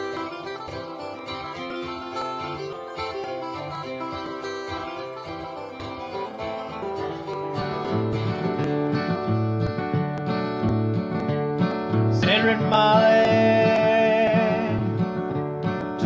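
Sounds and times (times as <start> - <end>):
full guitar with deep bass: 0.0 - 16.0
solo electric guitar picking: 0.0 - 16.0.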